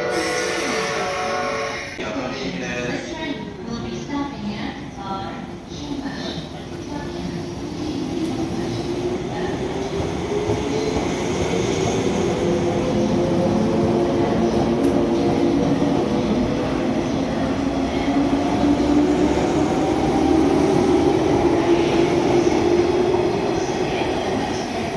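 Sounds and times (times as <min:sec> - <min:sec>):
rumble of train wheels: 0:04.3 - 0:24.9.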